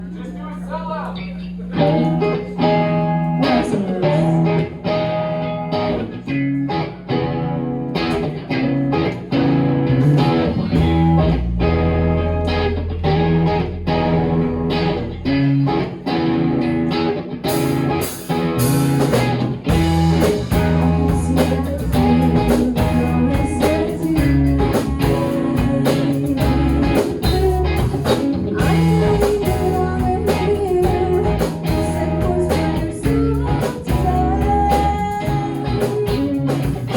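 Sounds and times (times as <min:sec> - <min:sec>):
bass guitar: 0:01.1 - 0:36.9
electric guitar: 0:01.1 - 0:36.9
drums: 0:01.8 - 0:15.1, 0:15.7 - 0:36.9.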